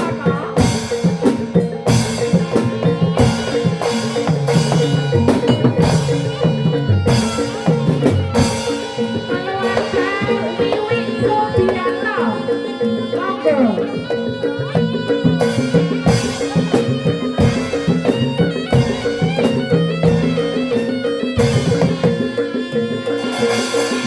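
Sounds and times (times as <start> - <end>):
hand drums beating: 0.0 - 24.0
ringing metallophone tones: 0.0 - 24.0
gliding melodic line: 0.1 - 24.0.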